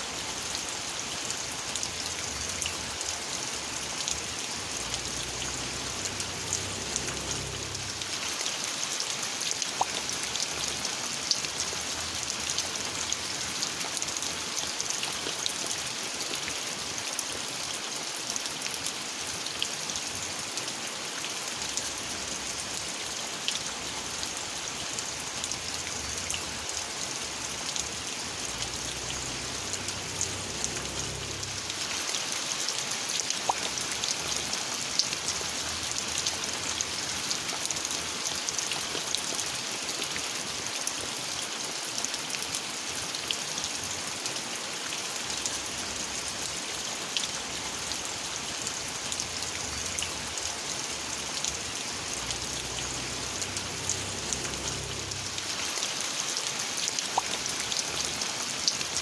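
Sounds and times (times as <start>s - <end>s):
steady rain hiss: 0.0s - 59.0s
raindrops ticking: 0.2s - 16.5s, 21.5s - 40.8s, 45.2s - 59.0s.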